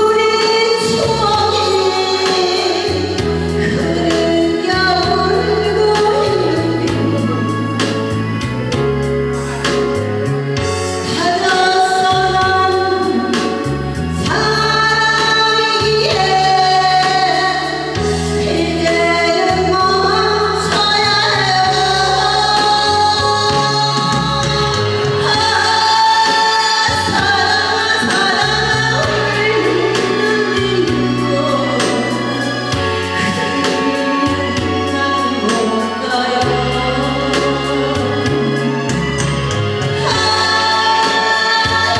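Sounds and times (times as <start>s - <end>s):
woman singing: 0.0s - 8.9s, 10.9s - 41.9s
backing track with bass line: 0.0s - 41.9s.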